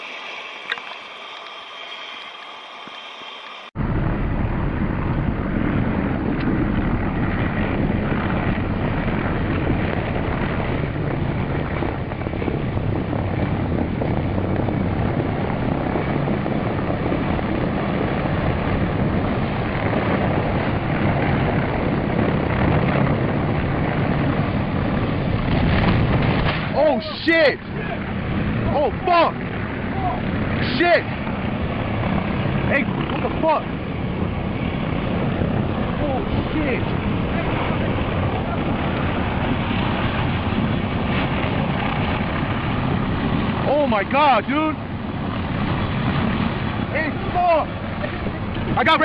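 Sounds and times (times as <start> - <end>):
aircraft engine and airflow noise: 0.0 - 49.0.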